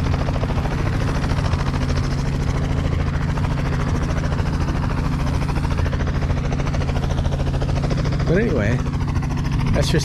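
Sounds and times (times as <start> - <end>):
helicopter rotor: 0.0 - 10.0.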